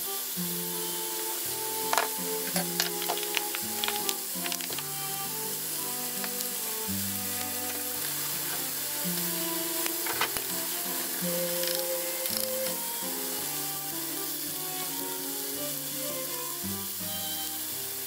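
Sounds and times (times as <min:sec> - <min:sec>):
background music with held notes: 0:00.0 - 0:18.0
meat sizzling in a frying pan: 0:00.0 - 0:18.0.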